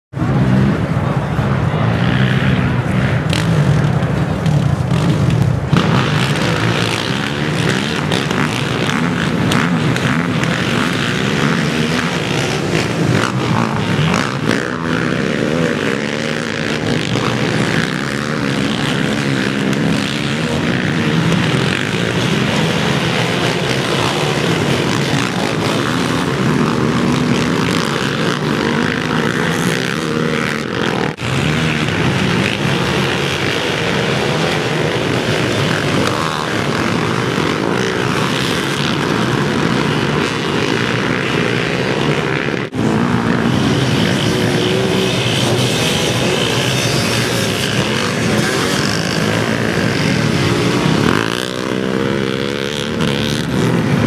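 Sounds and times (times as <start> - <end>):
racing quad engines: 0.1 - 54.0.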